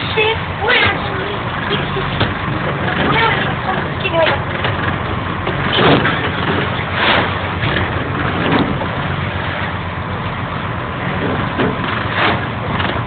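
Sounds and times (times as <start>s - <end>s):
ferry engine low drone: 0.0s - 13.0s.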